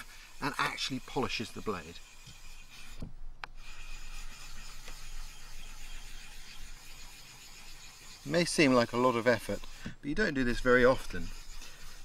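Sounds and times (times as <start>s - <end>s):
stone rubbing on wet whetstone: 0.0s - 3.0s, 3.6s - 12.0s.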